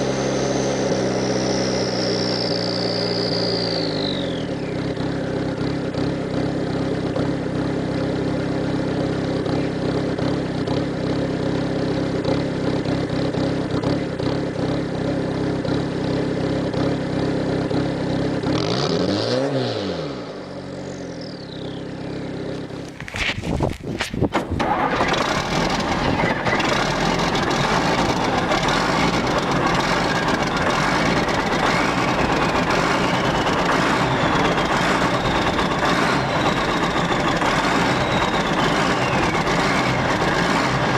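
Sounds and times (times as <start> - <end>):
diesel engine idling: 0.0 - 18.5, 24.2 - 40.9
diesel engine cranking and starting: 0.0 - 18.9, 20.4 - 40.9.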